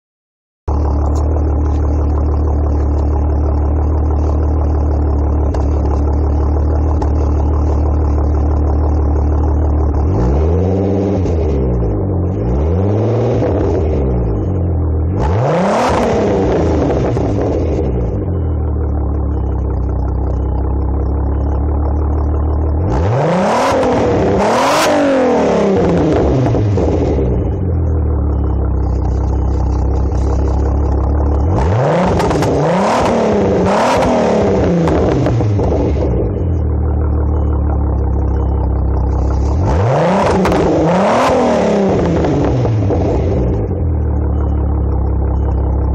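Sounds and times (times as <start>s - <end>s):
car engine idling and revving: 0.7s - 45.9s.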